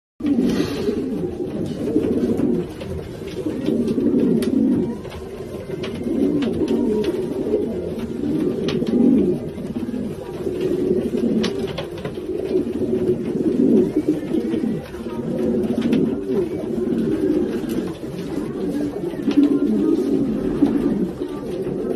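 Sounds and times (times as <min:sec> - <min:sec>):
pigeons cooing: 0:00.2 - 0:21.9.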